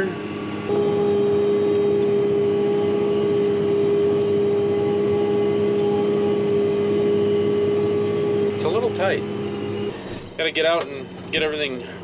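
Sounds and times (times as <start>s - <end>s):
tractor engine hum from cab: 0.0s - 12.0s.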